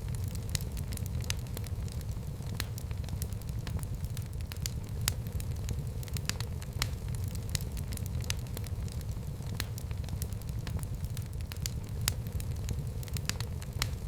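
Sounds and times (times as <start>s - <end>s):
wood fire burning: 0.0s - 14.0s.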